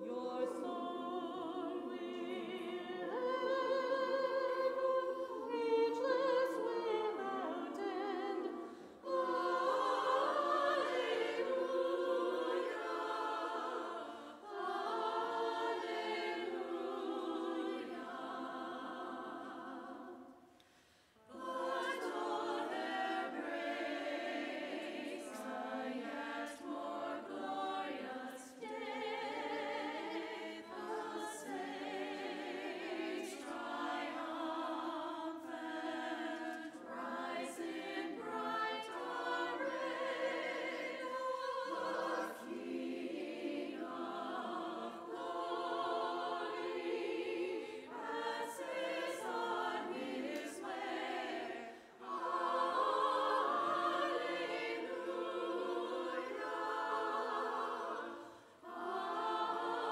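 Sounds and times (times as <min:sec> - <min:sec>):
women's choir singing: 0:00.0 - 0:59.9.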